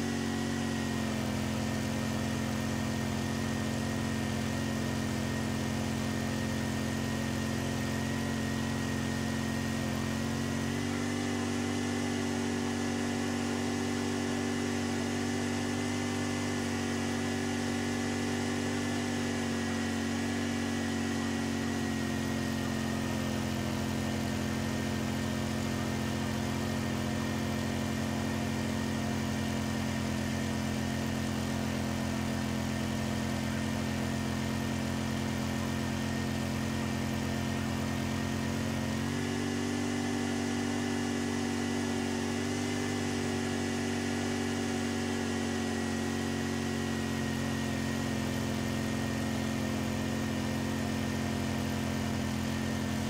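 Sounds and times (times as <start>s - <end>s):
snowblower engine running: 0.0s - 53.0s.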